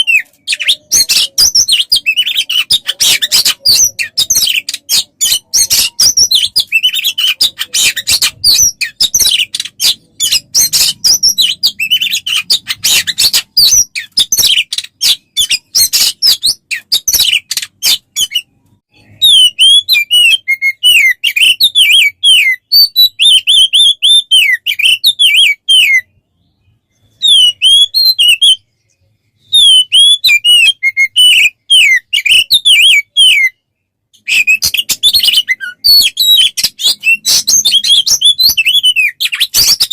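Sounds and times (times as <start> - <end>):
loud whistled bird phrases: 0.0 - 28.7, 29.4 - 39.9
songbird chattering and twittering: 0.0 - 39.9.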